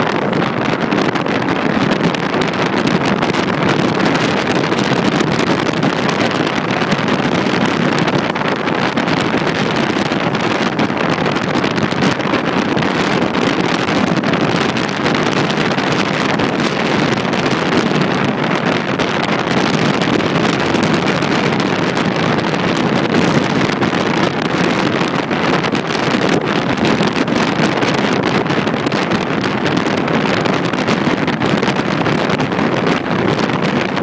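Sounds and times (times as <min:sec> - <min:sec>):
wind rushing over microphone: 0:00.0 - 0:34.0.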